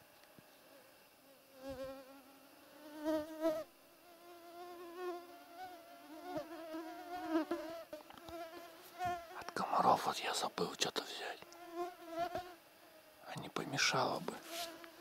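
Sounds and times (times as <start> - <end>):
flying insect buzzing: 0.6 - 15.0.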